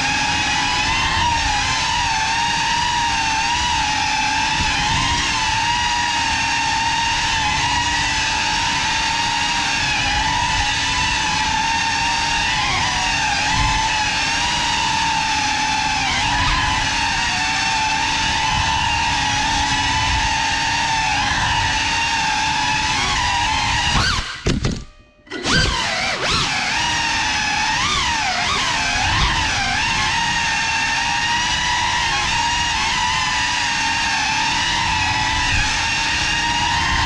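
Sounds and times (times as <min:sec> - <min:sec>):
drone propeller whine: 0:00.0 - 0:37.0.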